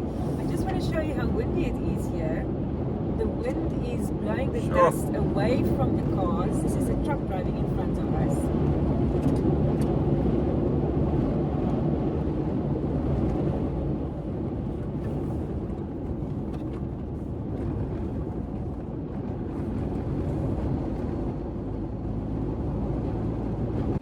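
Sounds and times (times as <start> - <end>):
car engine hum: 0.0 - 24.0.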